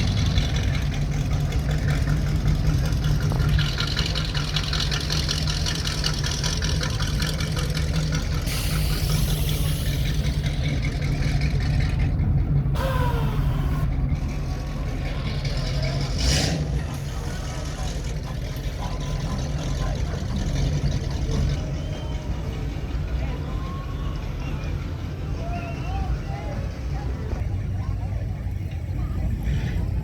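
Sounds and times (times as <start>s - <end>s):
car engines rumbling: 0.0s - 30.0s.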